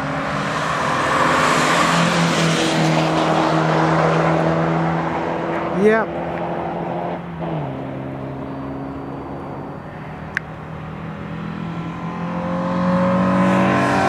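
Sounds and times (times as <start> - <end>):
sports car engine: 0.0 - 14.0.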